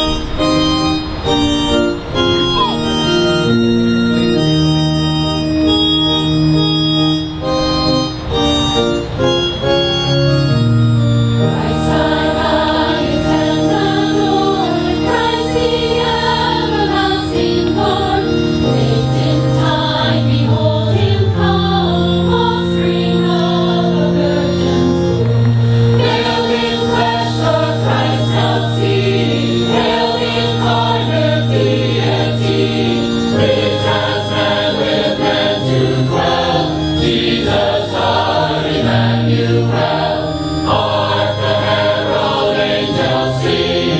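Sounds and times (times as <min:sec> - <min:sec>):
choir singing: 0:00.0 - 0:43.9
instrumental accompaniment: 0:00.0 - 0:43.9.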